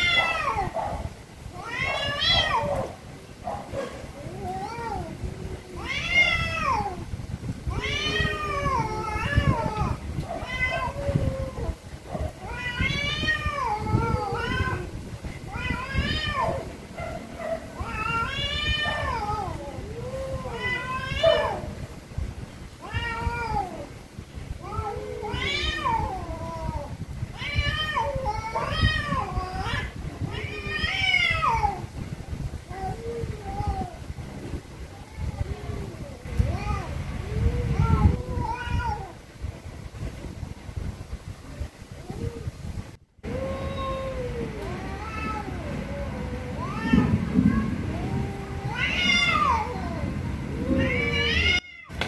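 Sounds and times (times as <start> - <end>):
cats yowling: 0.0 - 0.9, 1.5 - 3.0, 3.7 - 7.0, 7.7 - 21.8, 22.8 - 23.9, 24.6 - 31.9, 32.7 - 34.0, 34.9 - 39.2, 43.2 - 52.0.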